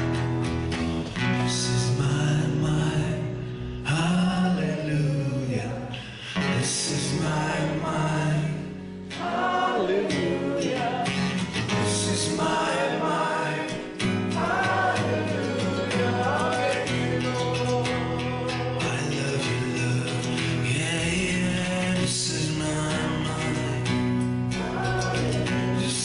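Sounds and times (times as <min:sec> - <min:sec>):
strummed acoustic guitar: 0:00.0 - 0:26.0
person singing: 0:01.3 - 0:26.0.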